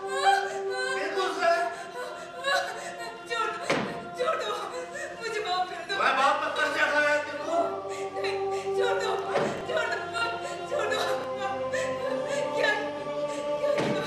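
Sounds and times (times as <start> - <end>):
singing with long held notes: 0.0 - 14.0.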